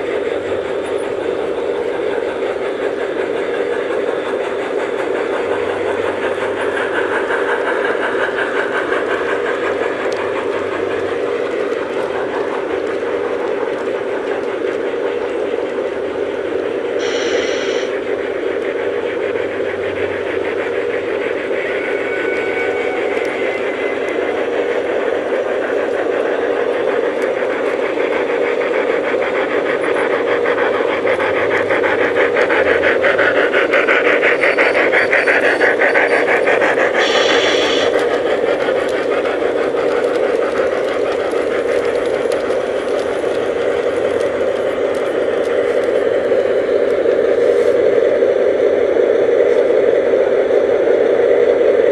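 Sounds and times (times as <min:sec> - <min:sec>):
wheels clicking over track: 0:00.0 - 0:48.6
model train motor hum: 0:00.0 - 0:51.9.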